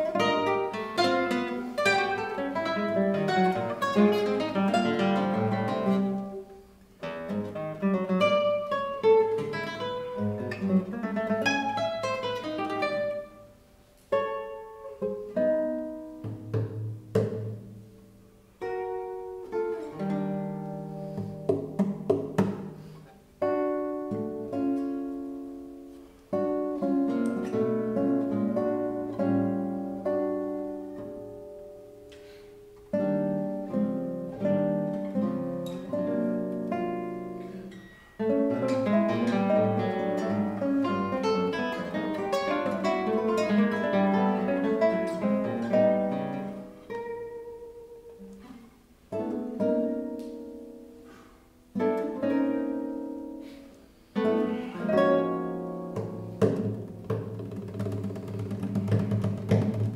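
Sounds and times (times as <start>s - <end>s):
classical guitar duet: 0.0s - 59.9s.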